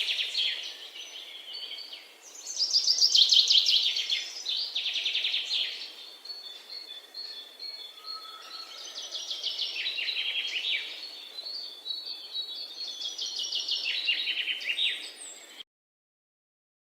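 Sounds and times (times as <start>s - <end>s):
faint steady hiss: 0.0s - 15.6s
songbird singing: 0.0s - 15.6s.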